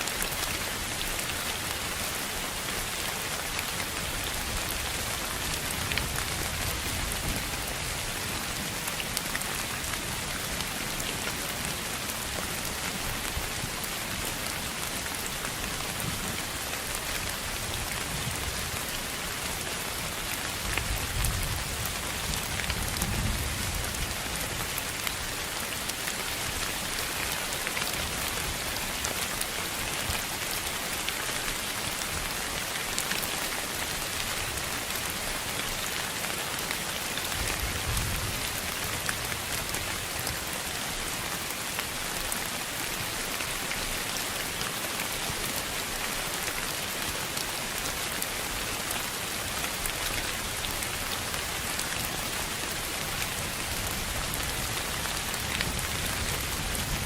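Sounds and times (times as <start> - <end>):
steady hiss like rain: 0.0 - 57.0.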